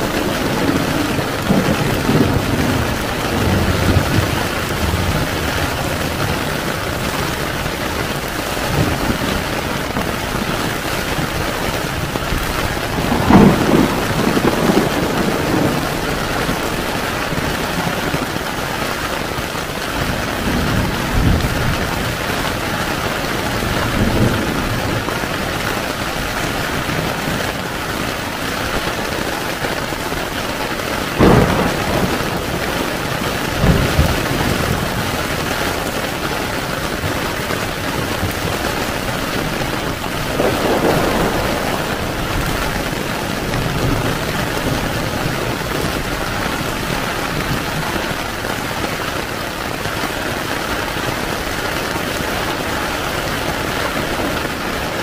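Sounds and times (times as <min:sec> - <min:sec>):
heavy rain on a tent: 0:00.0 - 0:55.0
thunderclaps: 0:00.0 - 0:55.0.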